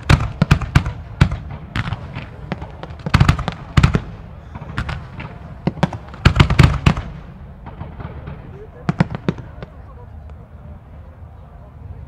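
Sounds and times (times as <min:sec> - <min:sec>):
fireworks crackle: 0:00.0 - 0:09.8
fireworks bangs and cracks: 0:00.0 - 0:10.0.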